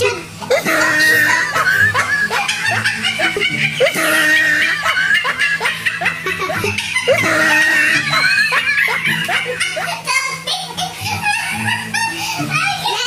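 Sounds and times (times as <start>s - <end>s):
woman laughing hard: 0.0s - 12.9s.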